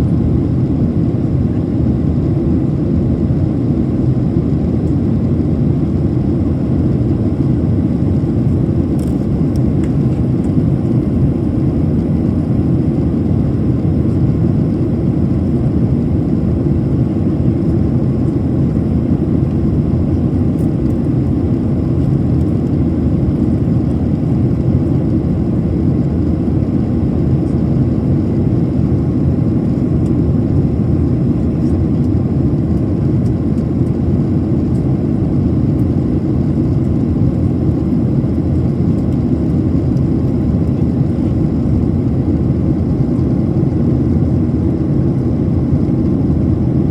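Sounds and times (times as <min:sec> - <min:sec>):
airplane cabin rumble: 0:00.0 - 0:46.9.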